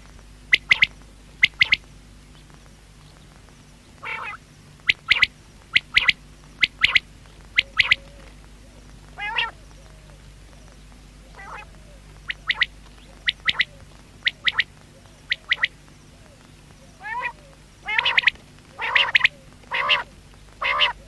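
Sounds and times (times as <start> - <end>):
quail calling: 0.5 - 1.9, 4.0 - 21.0.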